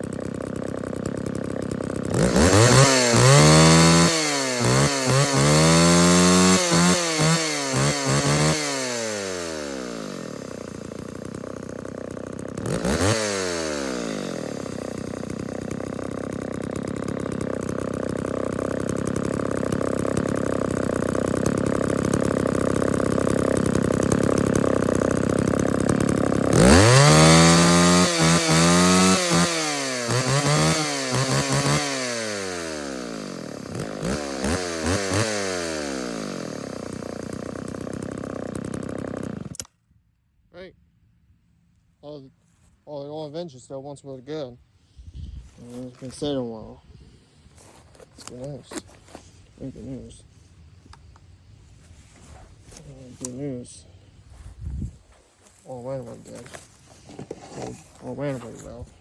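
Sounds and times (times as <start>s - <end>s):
two-stroke chainsaw revving and idling: 0.0s - 39.7s, 45.6s - 50.2s, 51.8s - 54.5s, 55.5s - 59.0s.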